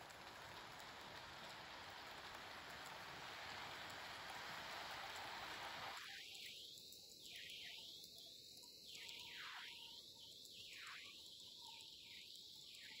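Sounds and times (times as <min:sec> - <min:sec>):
faint warbling hiss: 0:00.0 - 0:13.0.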